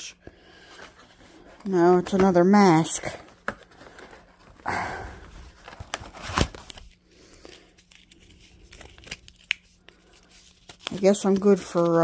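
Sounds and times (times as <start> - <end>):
packaging rustling: 0.5 - 12.0.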